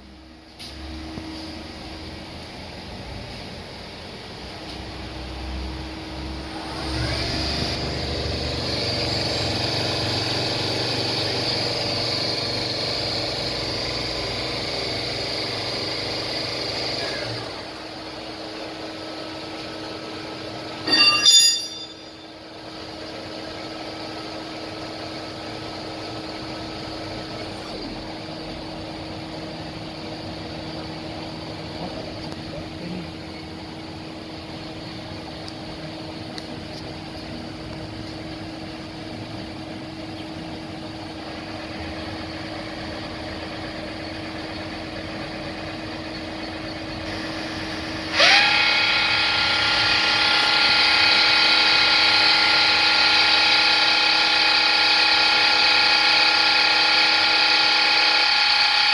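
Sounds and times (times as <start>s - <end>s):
lathe machine hum with whine: 0.0s - 58.9s.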